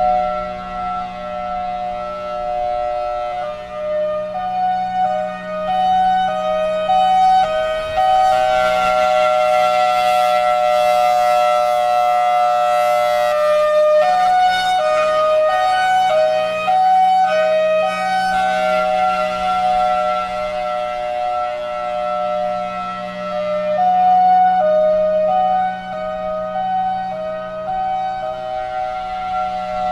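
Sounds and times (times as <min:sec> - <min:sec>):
hi-lo warning siren: 0:00.0 - 0:29.9.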